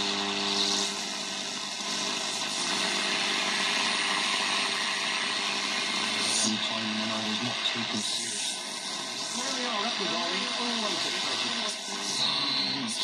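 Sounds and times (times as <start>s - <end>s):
radio static hissing: 0.0s - 13.0s.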